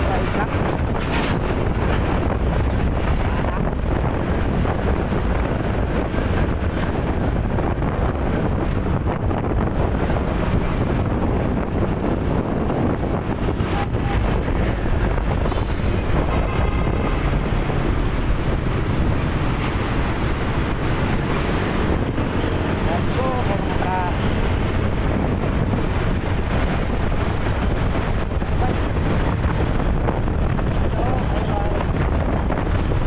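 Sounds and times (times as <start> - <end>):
engine and road rumble: 0.0 - 33.0
wind buffeting microphone: 0.0 - 33.0.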